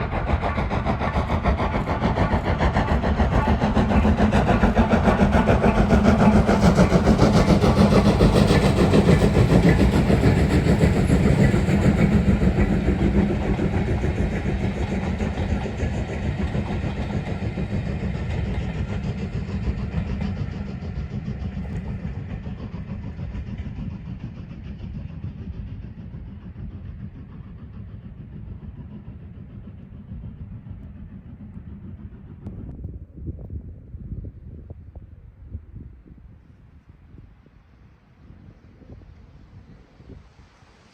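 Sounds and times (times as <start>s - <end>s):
steam locomotive passing: 0.0s - 32.7s, 36.1s - 40.9s.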